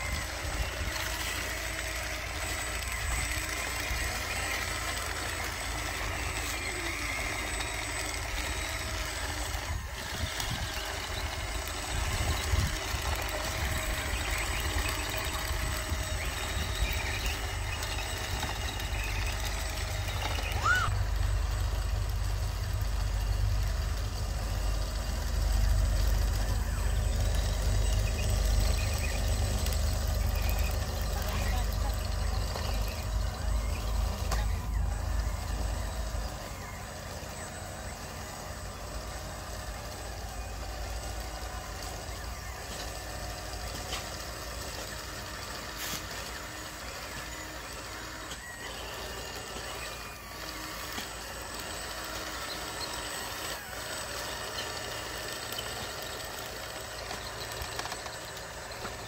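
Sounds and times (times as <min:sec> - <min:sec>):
model bulldozer motor whine: 0:00.0 - 0:59.0.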